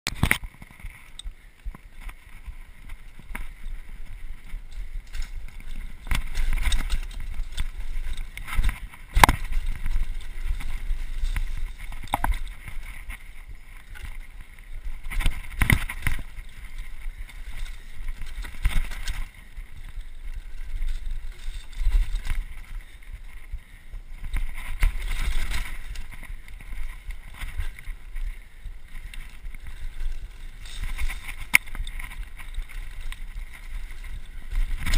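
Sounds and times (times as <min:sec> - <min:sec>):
bike rattling over the ground: 0:00.1 - 0:34.9
wind buffeting the microphone: 0:00.2 - 0:34.9.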